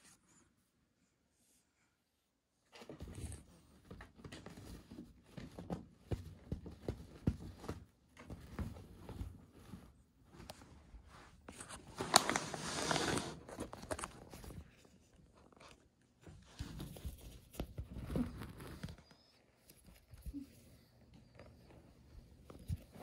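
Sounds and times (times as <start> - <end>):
carpet fabric rustling: 2.7 - 23.0.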